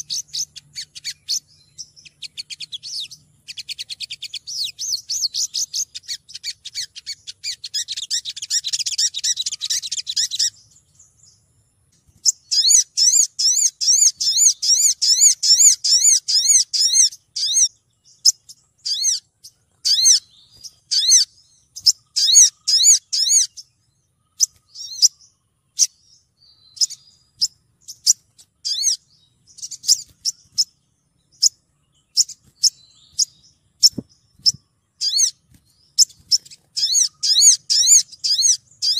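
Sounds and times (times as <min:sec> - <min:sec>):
bird high chirps: 0:00.0 - 0:38.9
bird twittering trill: 0:00.0 - 0:38.9.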